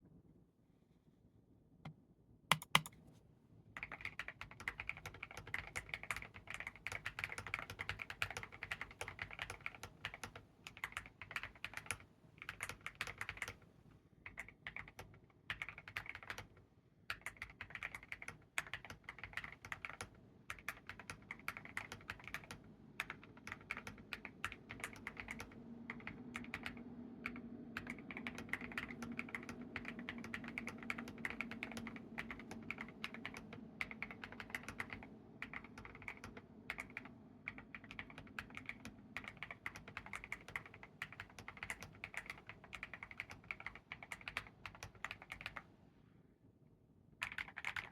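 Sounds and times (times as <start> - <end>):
mechanical keyboard typing: 2.5 - 2.9, 3.8 - 13.6, 14.3 - 45.6, 47.2 - 47.9.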